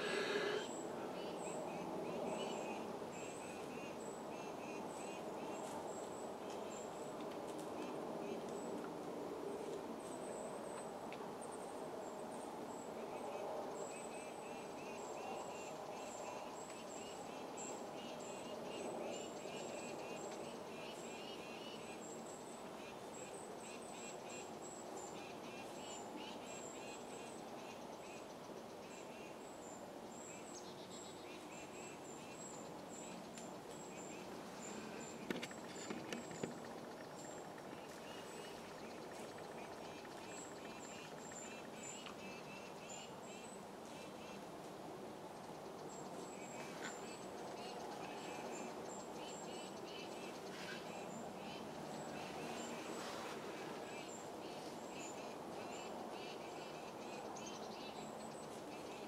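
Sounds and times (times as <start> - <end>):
faint outdoor hiss: 0.0 - 59.0.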